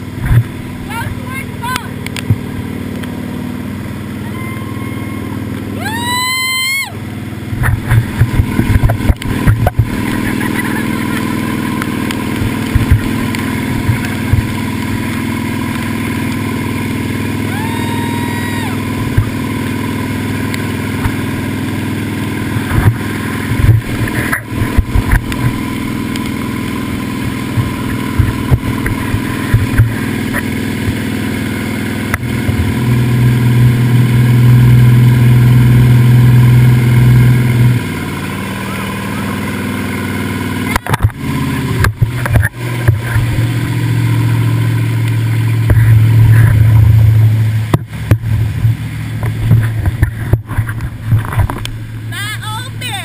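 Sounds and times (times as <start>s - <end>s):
boat engine running: 0.0s - 53.0s
churning wake rushing: 0.0s - 53.0s.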